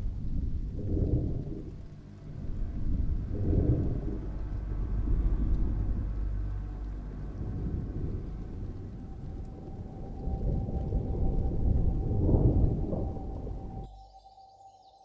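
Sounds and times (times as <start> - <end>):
deep low rumbling: 0.0 - 14.1
steady deep hum: 0.0 - 14.3.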